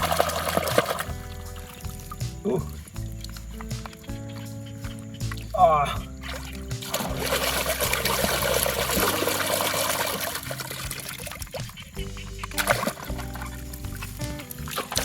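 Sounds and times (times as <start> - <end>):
water pouring and trickling: 0.0 - 15.0.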